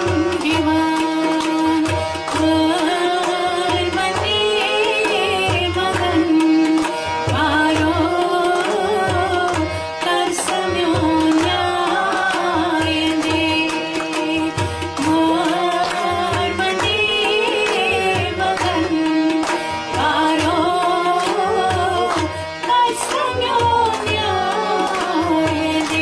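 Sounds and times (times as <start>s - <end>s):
held drone note: 0.0s - 26.0s
tabla strokes: 0.0s - 26.0s.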